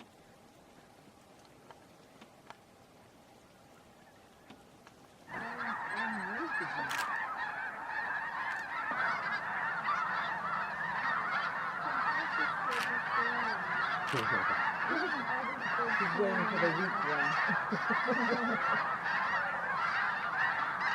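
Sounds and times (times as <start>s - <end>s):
flock of geese honking: 0.0s - 20.9s.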